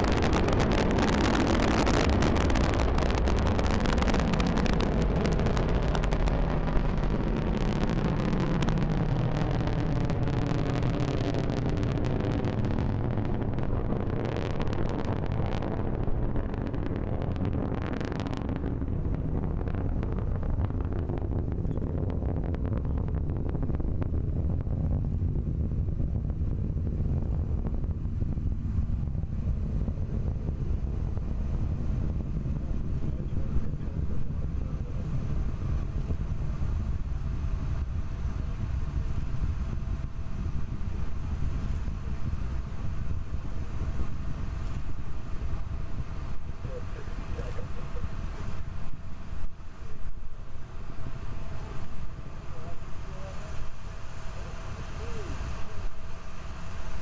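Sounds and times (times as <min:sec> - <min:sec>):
rocket crackling: 0:00.0 - 0:57.0
rocket engine roar: 0:00.0 - 0:57.0.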